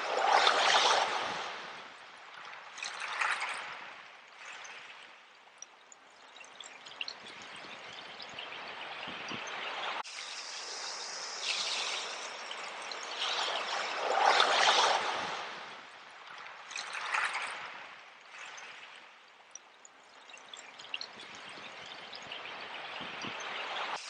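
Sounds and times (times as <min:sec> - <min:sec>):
sea waves washing in: 0:00.0 - 0:05.2, 0:07.7 - 0:19.1, 0:21.0 - 0:24.0.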